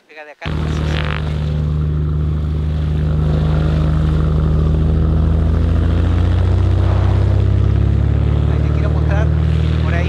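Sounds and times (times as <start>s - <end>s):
airplane engine and propeller drone: 0.4s - 10.0s.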